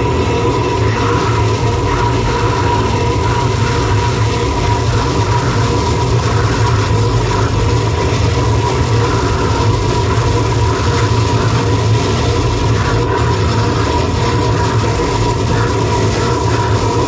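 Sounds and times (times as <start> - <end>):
deep rumble: 0.0 - 17.0
distorted noise music: 0.0 - 17.0.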